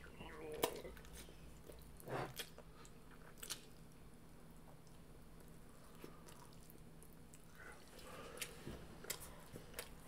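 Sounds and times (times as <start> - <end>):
child chewing noodles: 0.0 - 10.0
low steady hum: 0.0 - 10.0.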